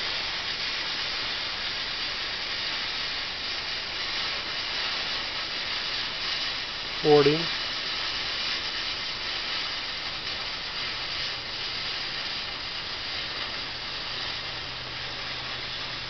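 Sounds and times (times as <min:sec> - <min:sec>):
safety fuse burning with hiss: 0:00.0 - 0:16.0.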